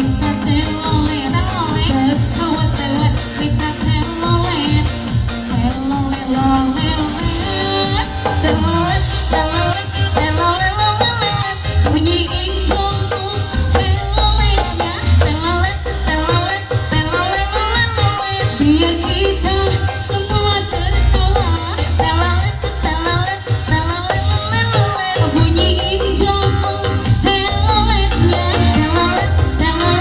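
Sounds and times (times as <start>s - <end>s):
song with steady beat: 0.0s - 30.0s.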